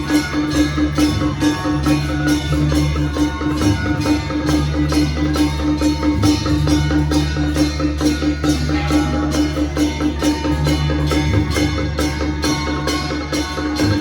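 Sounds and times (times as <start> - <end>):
loud music with percussion beat: 0.0 - 14.0.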